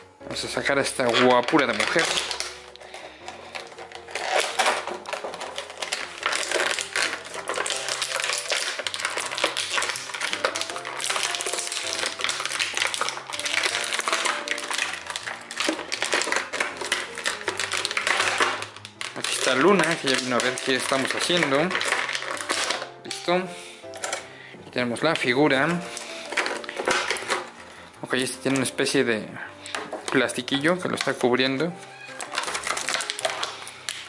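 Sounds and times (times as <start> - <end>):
plastic packaging crackling: 0.0 - 34.0.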